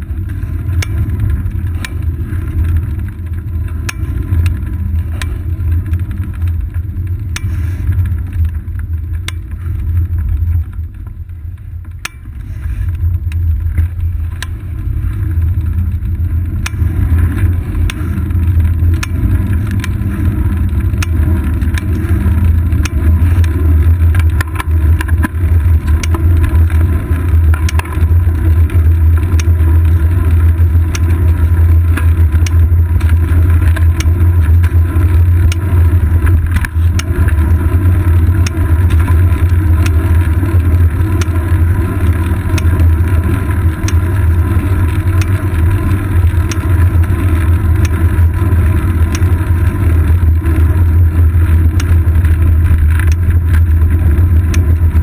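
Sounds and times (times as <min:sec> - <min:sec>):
road vibration and wind rumble: 0:00.0 - 0:55.0.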